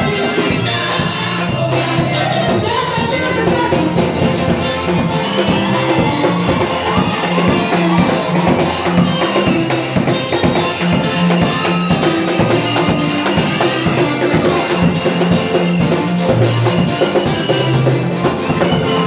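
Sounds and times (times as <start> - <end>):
church band music: 0.0 - 19.0
drum kit beat: 0.0 - 19.0.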